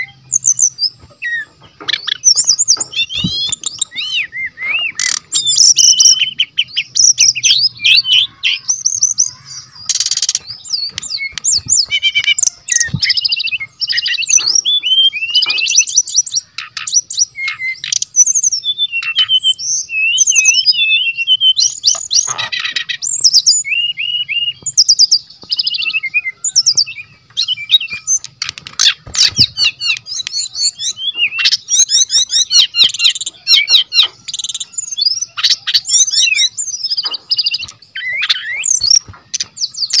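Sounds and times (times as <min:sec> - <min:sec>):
bird singing whistles and trills: 0:00.0 - 0:40.0.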